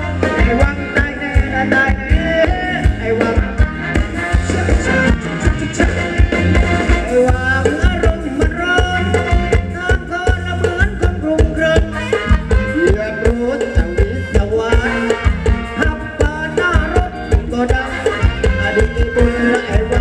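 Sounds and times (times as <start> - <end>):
live band dance music: 0.0 - 20.0
steady drum beat: 0.0 - 20.0.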